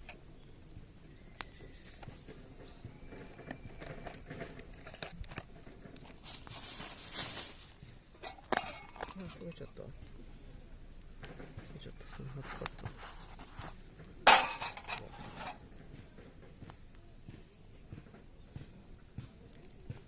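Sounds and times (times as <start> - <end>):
rustling crinkling noise: 0.0 - 10.3, 11.0 - 20.0
wood fire crackling and popping: 0.0 - 20.0.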